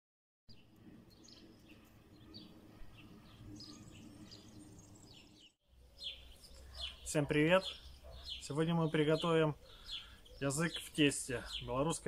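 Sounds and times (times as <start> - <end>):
birds chirping: 0.5 - 12.0.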